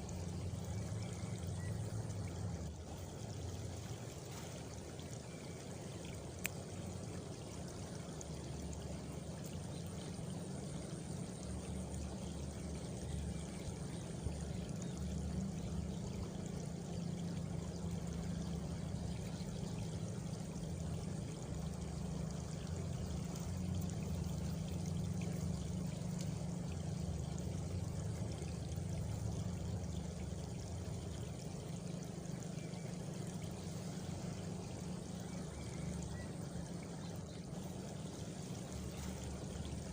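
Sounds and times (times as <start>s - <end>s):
rushing water-like noise: 0.0s - 39.9s.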